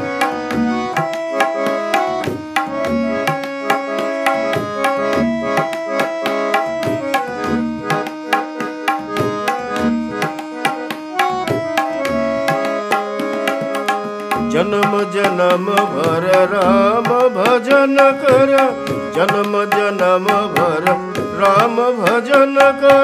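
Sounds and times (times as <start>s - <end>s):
harmonium melody: 0.0s - 23.0s
tabla rhythm: 0.0s - 23.0s.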